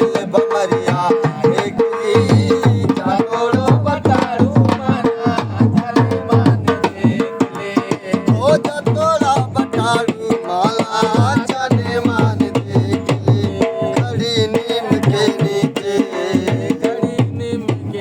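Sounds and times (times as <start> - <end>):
hand drum playing quick rhythm: 0.0 - 18.0.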